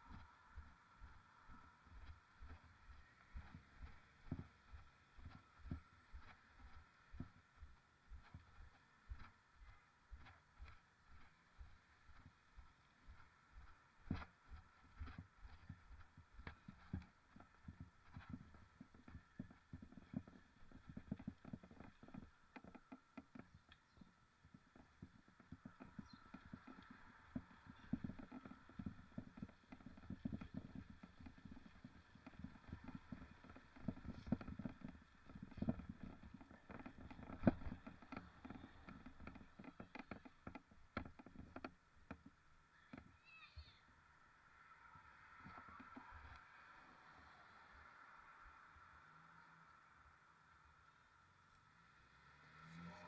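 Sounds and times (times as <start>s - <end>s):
bike rattling and knocking: 0.0s - 43.2s.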